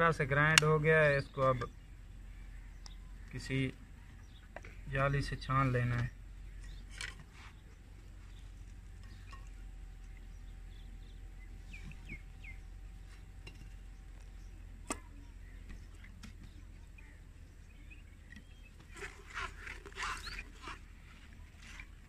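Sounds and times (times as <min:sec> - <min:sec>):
bird chirps: 0:01.0 - 0:19.2, 0:20.0 - 0:20.6.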